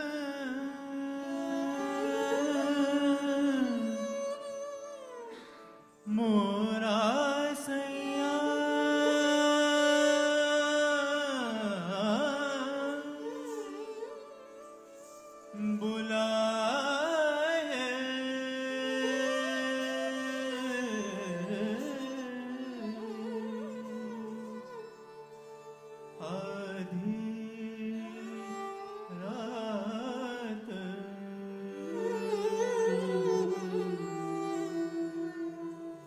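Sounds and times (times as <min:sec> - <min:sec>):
indian classical melody: 0:00.0 - 0:36.0.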